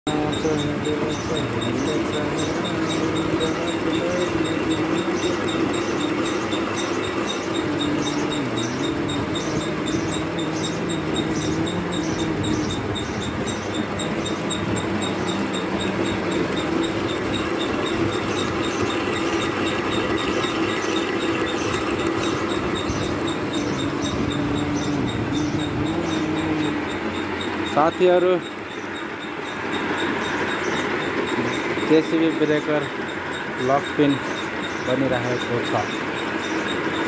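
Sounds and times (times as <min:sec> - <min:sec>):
fast regular ticking: 0:00.1 - 0:37.0
metal lathe humming: 0:00.1 - 0:37.0.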